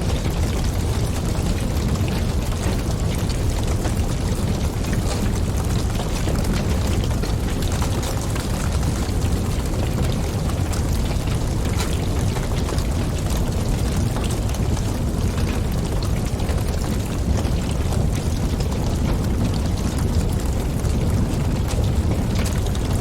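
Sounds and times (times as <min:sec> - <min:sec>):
wind: 0:00.0 - 0:23.0
wood fire crackling and popping: 0:00.0 - 0:23.0.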